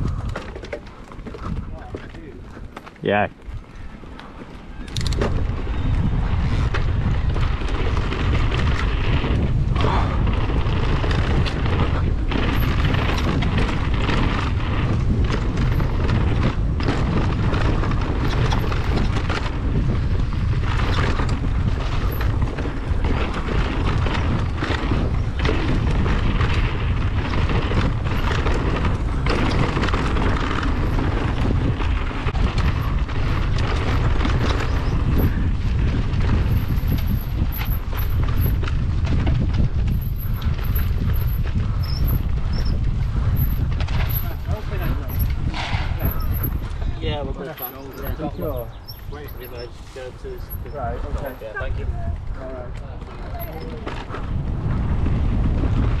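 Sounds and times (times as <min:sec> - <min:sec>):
bike rattling over rough trail: 0:00.0 - 0:56.0
wind buffeting microphone: 0:00.0 - 0:56.0.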